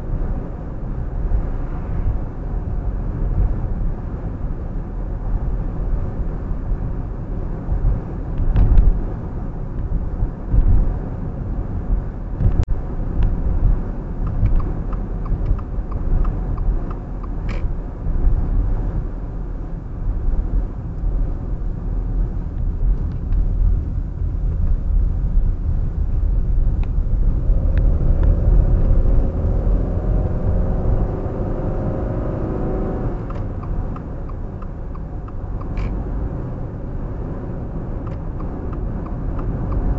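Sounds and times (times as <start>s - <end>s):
car tyres and engine rumbling: 0.0s - 39.9s.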